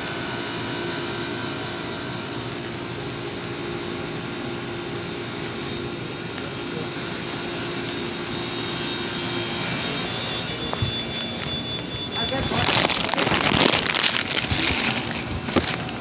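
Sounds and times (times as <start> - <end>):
low hum: 0.0 - 16.0
machine drone with rushing noise: 0.0 - 16.0.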